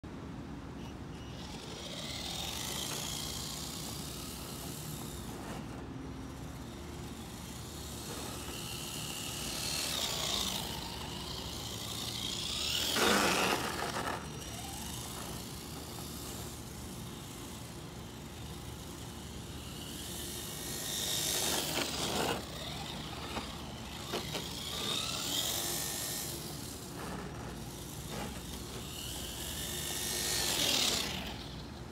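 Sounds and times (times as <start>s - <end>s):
rc truck motor whine: 0.6s - 31.9s.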